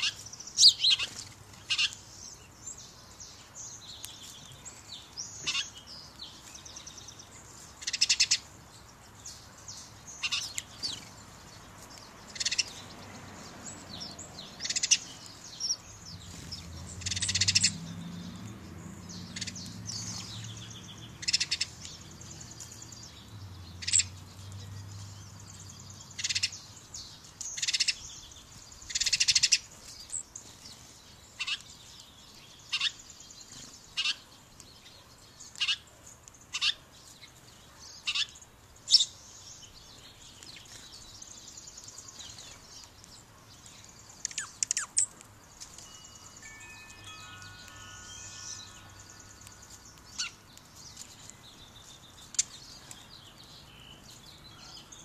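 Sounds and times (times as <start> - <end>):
small songbirds chirping: 0.0 - 55.0.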